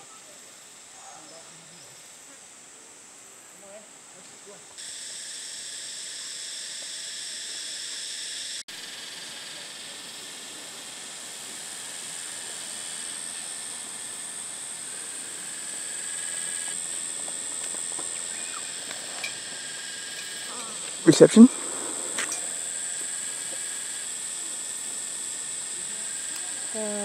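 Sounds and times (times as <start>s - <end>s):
cicadas droning: 0.0s - 27.0s.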